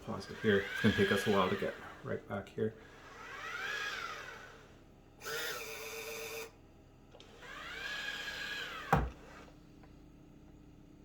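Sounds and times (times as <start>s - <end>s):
robot mop motors whining: 0.0s - 6.6s, 7.2s - 9.6s.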